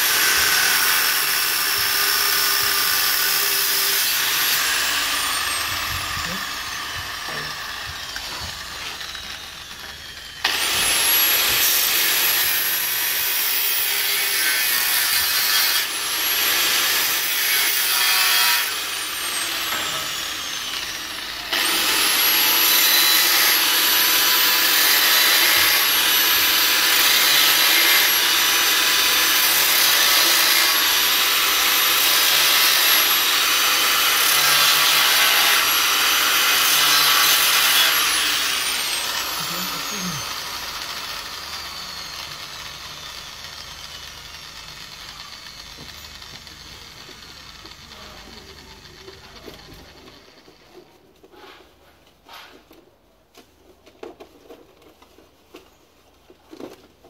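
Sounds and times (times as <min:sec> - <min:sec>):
angle grinder cutting metal: 0:00.0 - 0:50.7.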